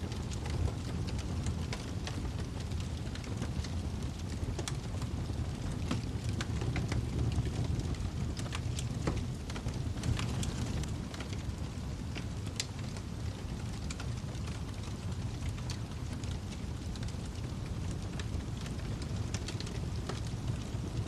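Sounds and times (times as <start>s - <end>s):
fire popping and snapping: 0.0s - 21.0s
wood fire crackling: 0.0s - 21.0s.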